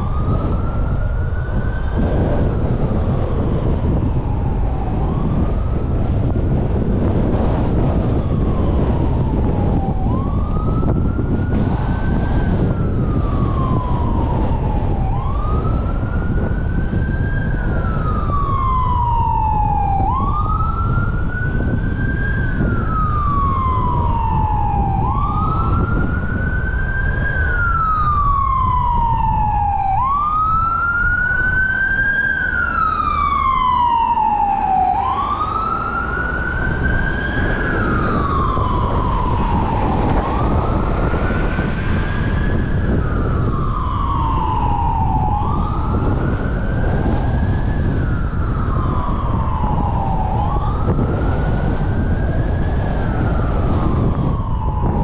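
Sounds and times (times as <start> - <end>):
emergency siren wailing: 0.0 - 55.0
road noise: 0.0 - 55.0.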